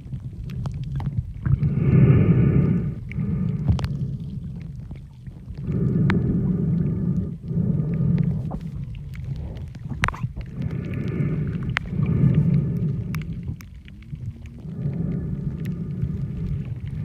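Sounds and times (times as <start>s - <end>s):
low underwater rumbling wash: 0.0s - 17.0s
sharp underwater clicks: 0.0s - 17.0s.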